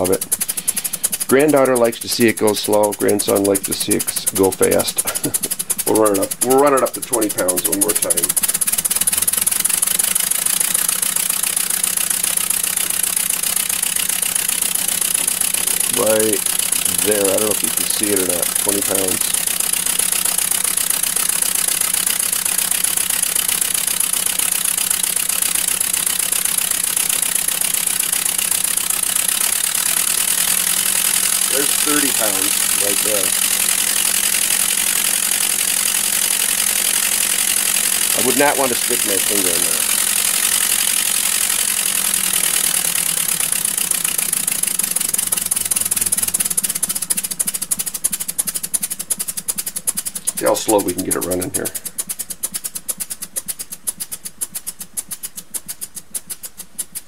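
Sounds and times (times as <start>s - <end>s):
model air engine running fast: 0.0s - 57.0s.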